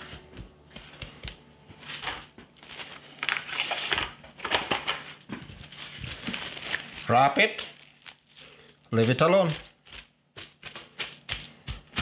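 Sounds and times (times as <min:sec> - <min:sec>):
plastic cling film crinkling: 0:01.8 - 0:12.0.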